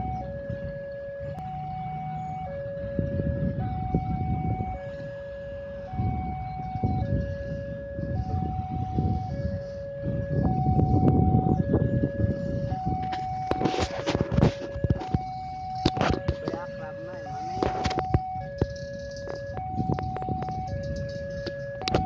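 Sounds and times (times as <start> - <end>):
level crossing two-tone alarm: 0.0 - 22.0.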